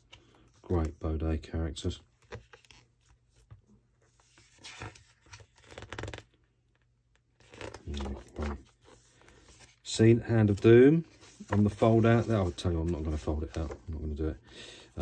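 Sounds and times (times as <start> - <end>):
book page turning: 2.2 - 14.2.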